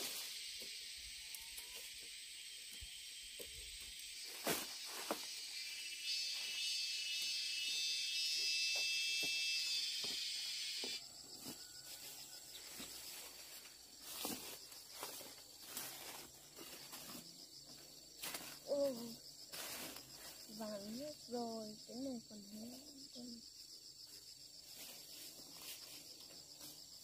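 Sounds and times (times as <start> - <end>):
faint insect whine: 0.0 - 27.0
insects trilling chorus: 0.0 - 27.0.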